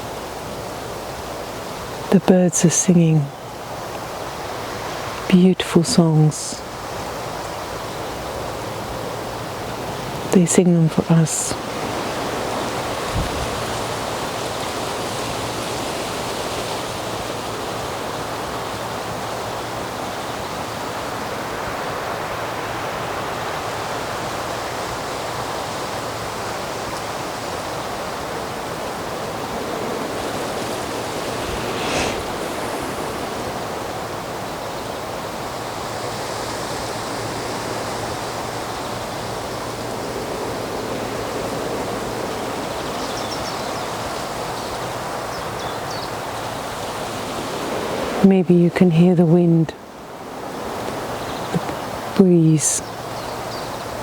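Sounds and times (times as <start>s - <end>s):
steady rushing hiss: 0.0s - 48.2s.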